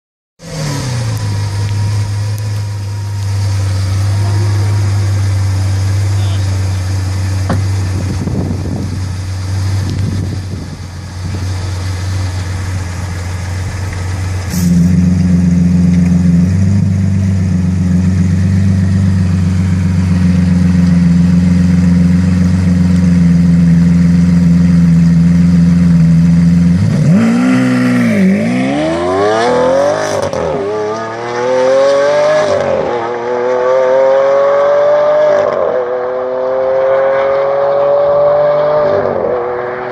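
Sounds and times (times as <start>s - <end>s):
car engine revving and accelerating: 0.4s - 39.9s.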